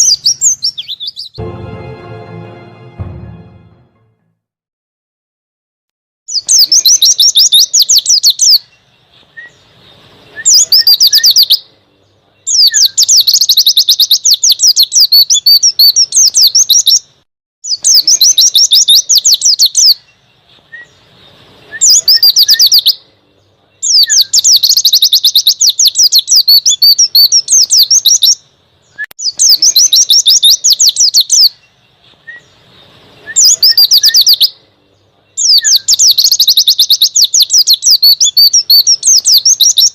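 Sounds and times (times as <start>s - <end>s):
bird twittering song: 0.0s - 1.4s, 6.3s - 39.9s.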